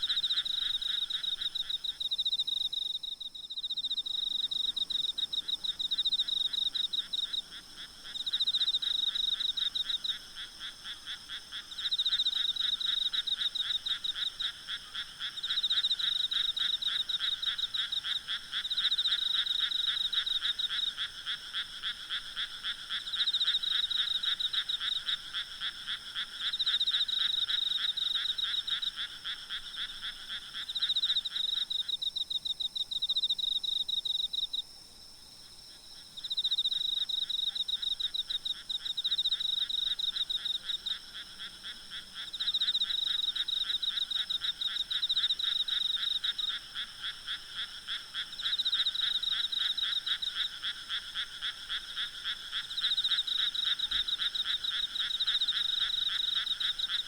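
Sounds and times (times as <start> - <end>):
frogs calling in trills: 0.0 - 34.8, 35.4 - 57.0
faint high insect hum: 0.0 - 57.0.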